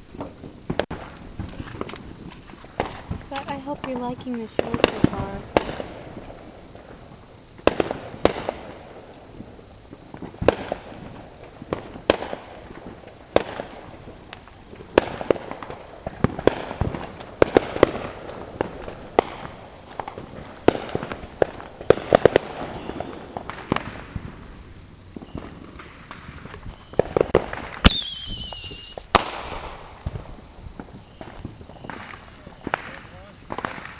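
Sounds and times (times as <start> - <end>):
fireworks bangs: 0.0 - 33.9.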